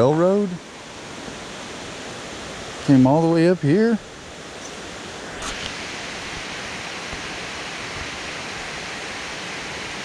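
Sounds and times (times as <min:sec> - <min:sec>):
steady outdoor rushing noise: 0:00.0 - 0:10.0.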